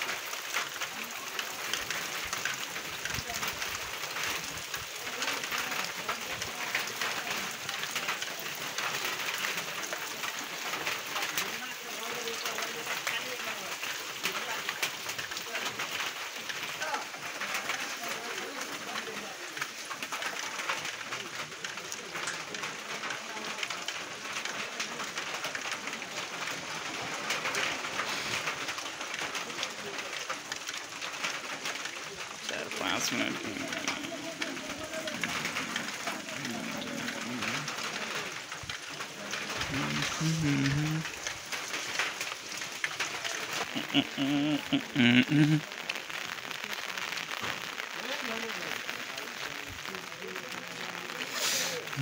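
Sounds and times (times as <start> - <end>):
rain on wet pavement: 0.0 - 52.0.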